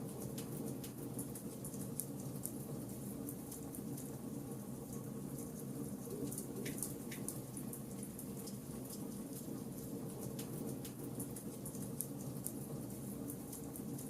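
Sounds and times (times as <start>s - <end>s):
low burning noise: 0.0s - 14.0s.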